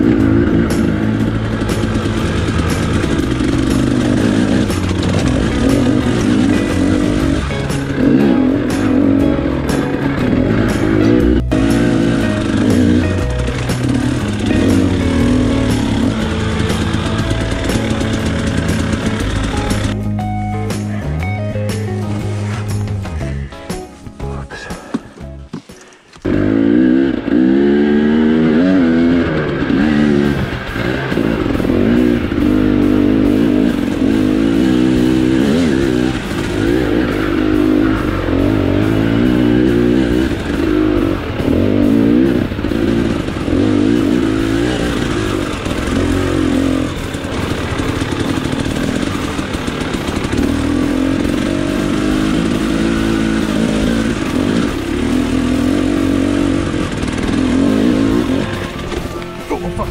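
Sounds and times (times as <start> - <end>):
dirt bike engine revving: 0.0 - 21.1, 25.8 - 59.9.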